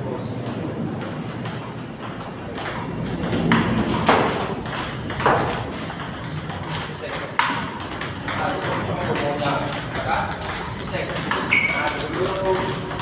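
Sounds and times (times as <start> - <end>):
table tennis balls clicking: 0.4 - 13.0.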